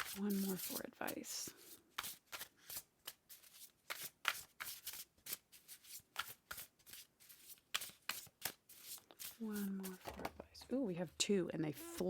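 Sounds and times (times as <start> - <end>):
cards being shuffled: 0.0 - 10.4.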